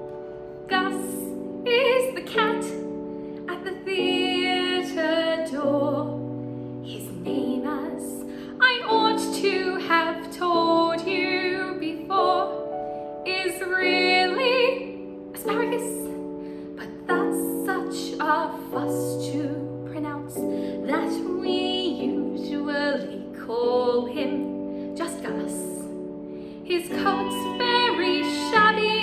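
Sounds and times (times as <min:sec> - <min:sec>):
piano accompaniment: 0:00.0 - 0:29.0
woman singing with vibrato: 0:00.7 - 0:02.8, 0:03.5 - 0:06.2, 0:06.9 - 0:12.6, 0:13.3 - 0:16.2, 0:16.8 - 0:25.9, 0:26.7 - 0:29.0.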